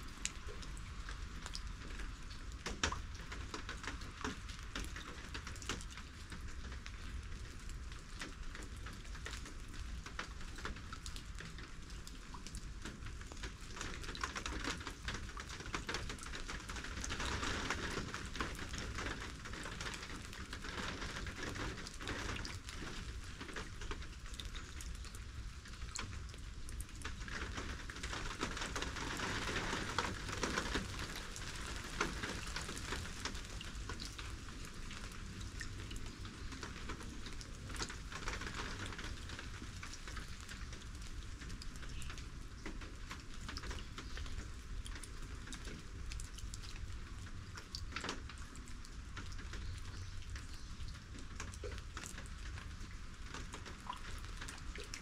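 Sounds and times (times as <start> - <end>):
rain drops ticking on hard surfaces: 0.0 - 55.0.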